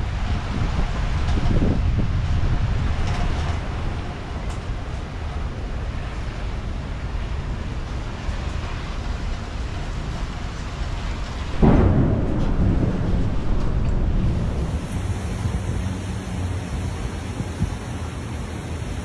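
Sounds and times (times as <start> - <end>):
storm wind buffeting microphone: 0.0 - 18.3.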